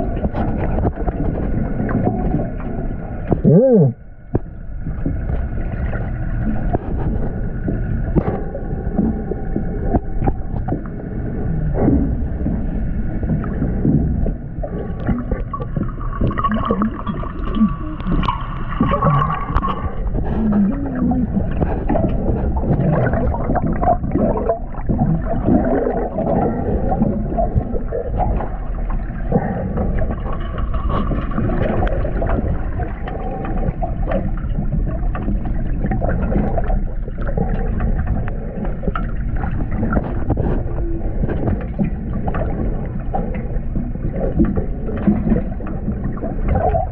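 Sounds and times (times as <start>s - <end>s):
underwater water sloshing: 0.0s - 46.9s.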